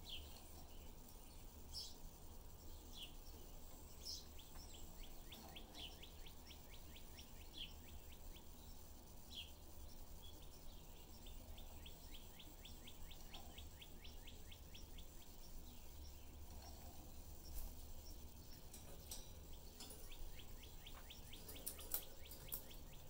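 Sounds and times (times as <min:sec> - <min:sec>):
budgies chirping: 0:00.0 - 0:23.0.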